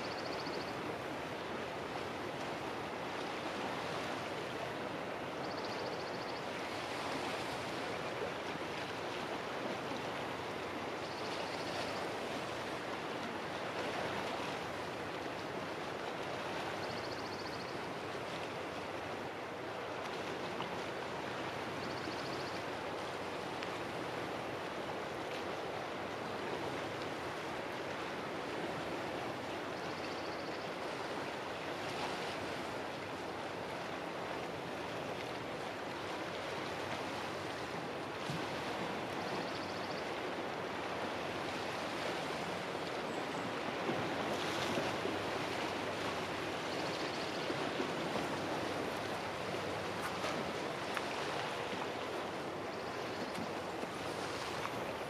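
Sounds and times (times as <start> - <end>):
small waves washing on shore: 0.0 - 55.0.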